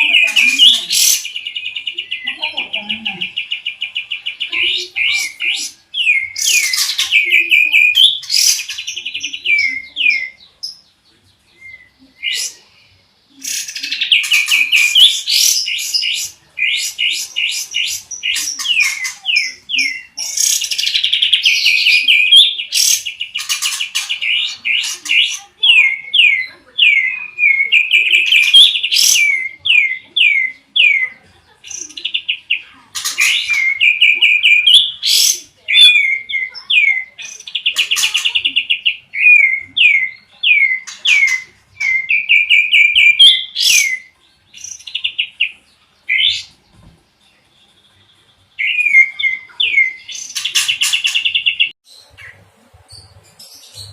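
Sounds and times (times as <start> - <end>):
songbirds whistling: 0.0 - 47.0, 47.7 - 52.4.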